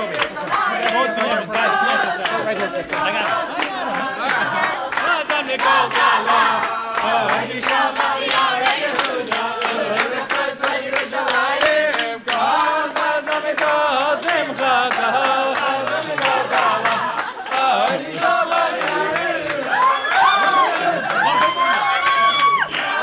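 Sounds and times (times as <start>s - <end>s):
crowd singing loudly: 0.0s - 23.0s
handclaps: 0.0s - 23.0s.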